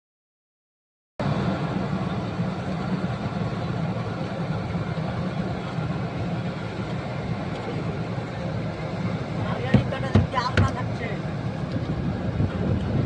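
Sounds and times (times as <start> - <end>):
large engine droning: 1.2 - 13.0.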